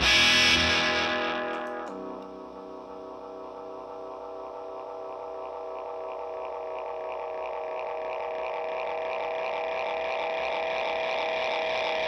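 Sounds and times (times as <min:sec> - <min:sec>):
droning guitar pedal echoes: 0:00.0 - 0:12.0.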